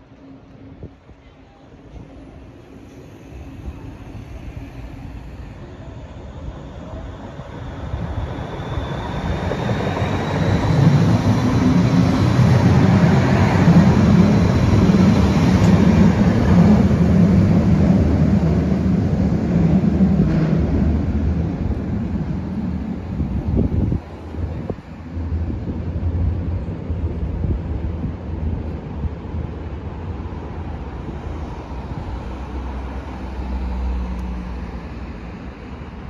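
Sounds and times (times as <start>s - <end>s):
tram passing: 0.0s - 36.0s.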